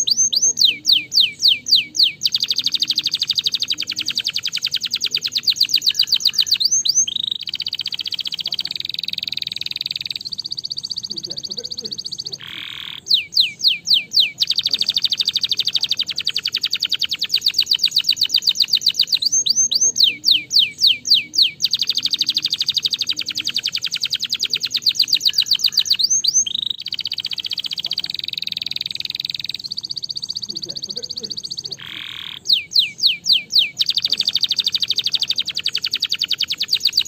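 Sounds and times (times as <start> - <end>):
canary singing: 0.0 - 37.0.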